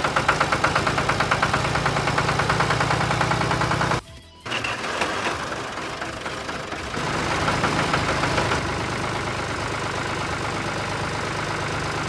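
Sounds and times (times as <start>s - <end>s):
toy tractor engine idling: 0.0s - 12.0s.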